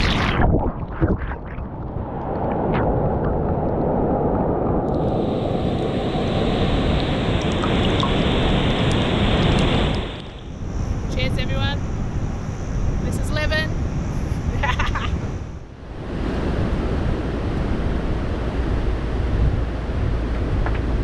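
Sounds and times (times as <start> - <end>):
ocean surf washing in: 0.0 - 20.4.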